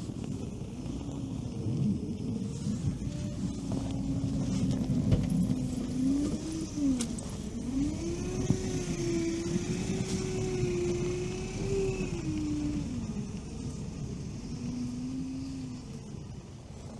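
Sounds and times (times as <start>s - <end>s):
vehicle engine running: 0.0s - 16.9s.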